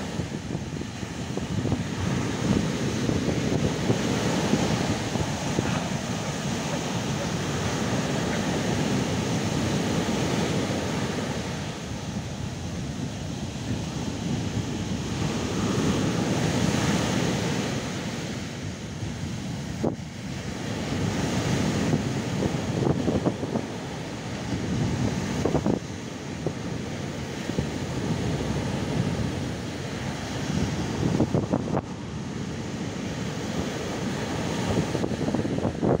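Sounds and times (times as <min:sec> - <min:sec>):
surf breaking on beach: 0:00.0 - 0:36.0.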